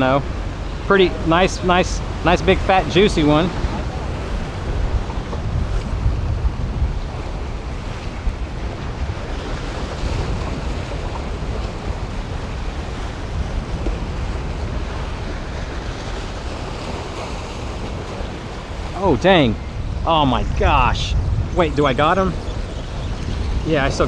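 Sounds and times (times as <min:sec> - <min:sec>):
surf washing against jetty: 0:00.0 - 0:24.0
wind buffeting microphone: 0:00.0 - 0:24.0.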